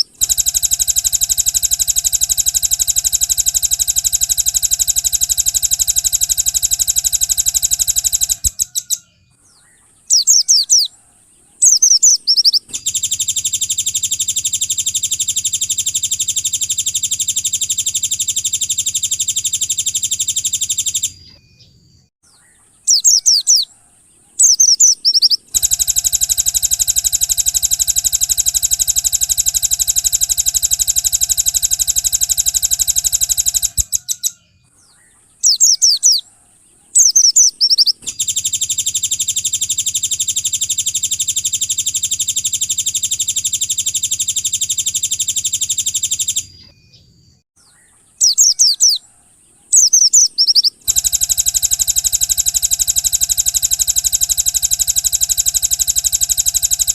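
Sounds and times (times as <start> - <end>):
fast high bird trill: 0.0 - 21.4, 22.3 - 34.7, 35.4 - 46.9, 47.7 - 56.9
high falling bird chirps: 0.0 - 56.9.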